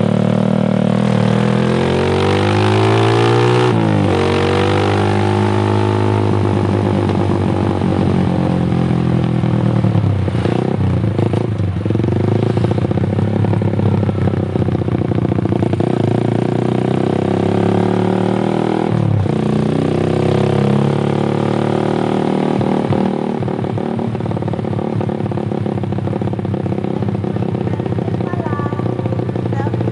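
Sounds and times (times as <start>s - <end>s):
motorcycle engine exhaust note: 0.0s - 29.9s.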